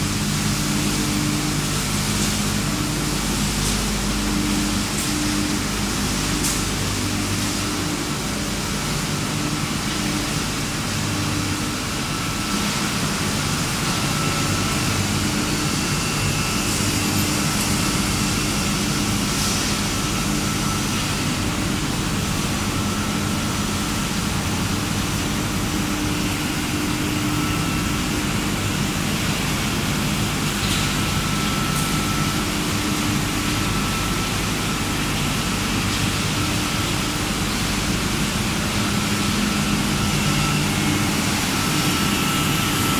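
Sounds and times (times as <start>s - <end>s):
machinery humming: 0.0s - 42.9s.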